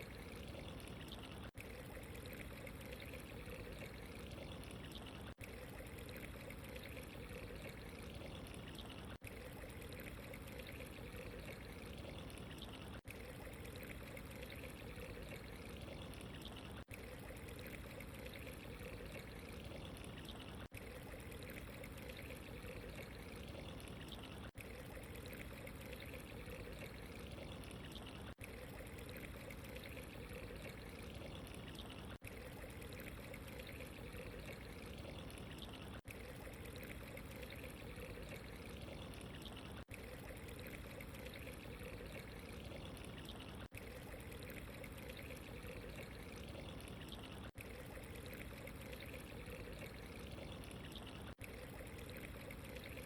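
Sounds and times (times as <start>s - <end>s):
running water trickling: 0.0s - 53.0s.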